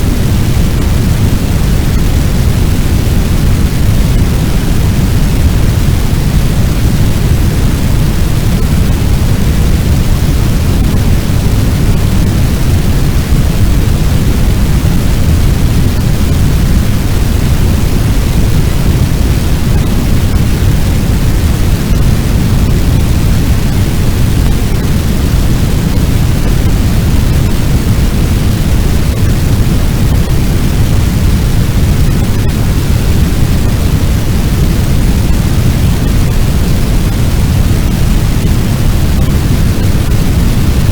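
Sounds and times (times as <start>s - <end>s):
roaring fire: 0.0s - 40.9s.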